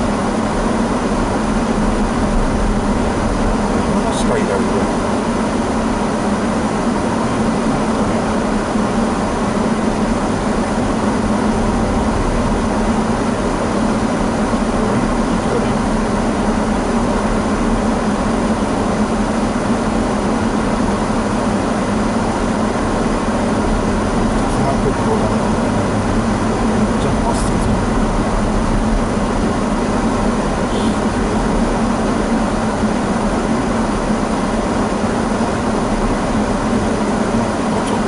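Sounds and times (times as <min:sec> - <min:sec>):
low engine drone: 0:00.0 - 0:38.0.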